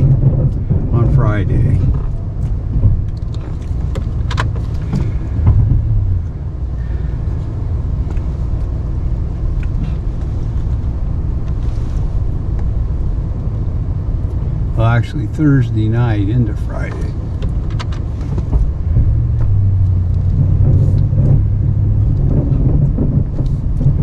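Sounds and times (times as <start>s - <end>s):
plow blade pushing snow: 0.0s - 24.0s
truck engine rumbling: 0.0s - 24.0s.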